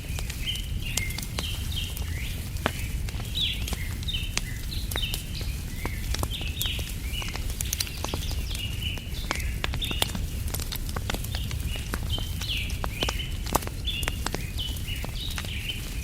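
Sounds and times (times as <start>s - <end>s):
small birds chirping: 0.0s - 16.0s
wood fire crackling and popping: 0.0s - 16.0s.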